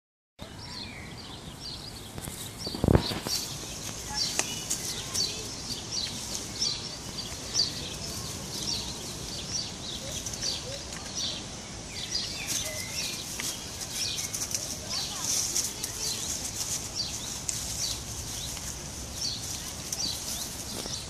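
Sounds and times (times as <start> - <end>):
small birds chirping: 0.4 - 21.0.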